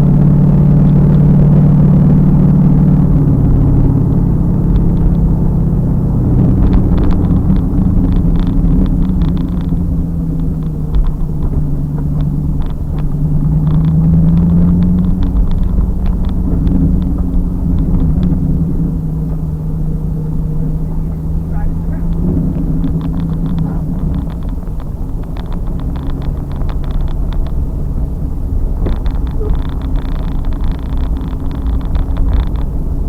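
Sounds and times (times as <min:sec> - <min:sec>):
car engine droning inside car: 0:00.0 - 0:33.0
light clicks and rattles: 0:02.3 - 0:33.0.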